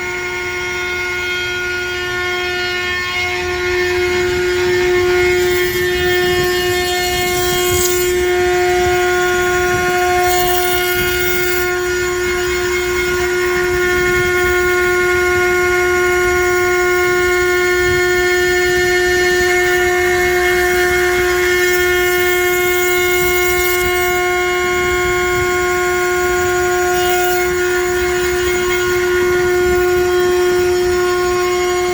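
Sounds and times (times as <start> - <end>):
router spindle whine: 0.0 - 31.9.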